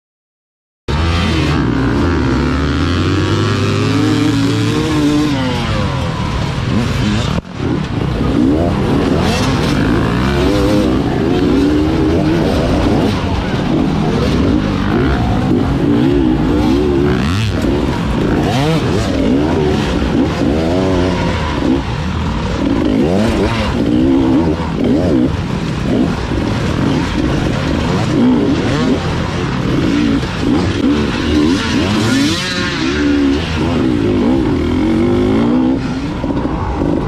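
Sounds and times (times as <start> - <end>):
motorcycle engines revving: 0.9 - 37.0.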